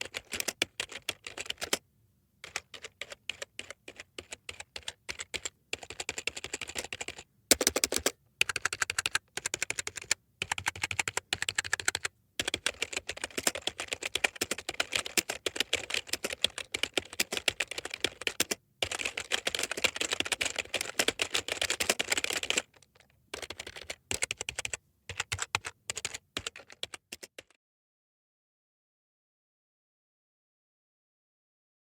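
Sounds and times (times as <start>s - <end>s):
typing on computer keyboard: 0.0s - 1.8s, 2.4s - 27.6s.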